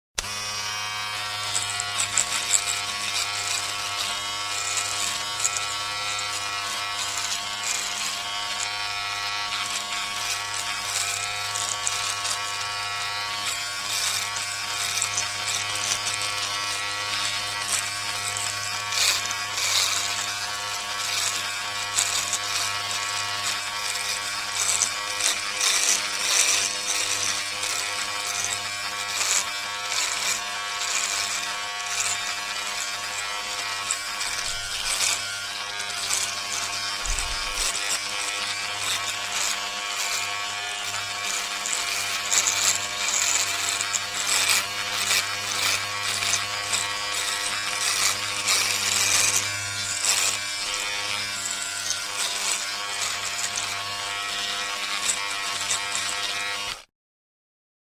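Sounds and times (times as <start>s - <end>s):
electric shaver buzzing: 0.2s - 56.9s.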